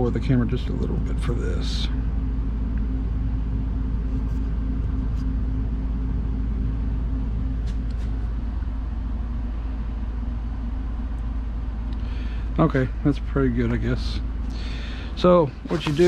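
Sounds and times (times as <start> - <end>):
machinery hum and rumble: 0.0 - 16.0.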